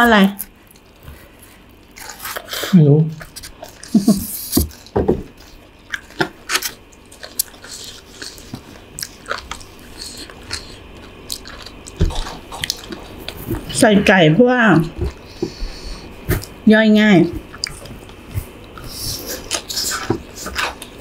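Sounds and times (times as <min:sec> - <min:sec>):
chewing noodles: 0:00.4 - 0:13.8, 0:17.4 - 0:21.0.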